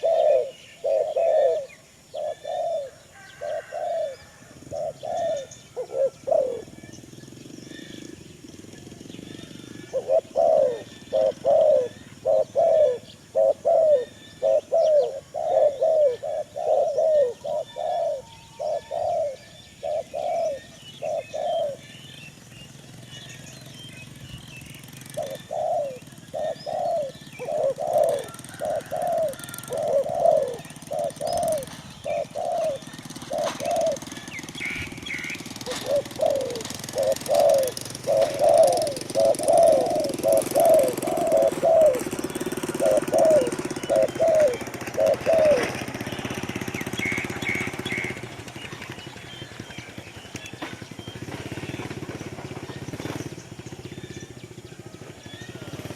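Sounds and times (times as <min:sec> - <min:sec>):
pigeon cooing: 0:00.0 - 0:21.9, 0:24.8 - 0:48.2
small birds chirping: 0:00.0 - 0:55.9.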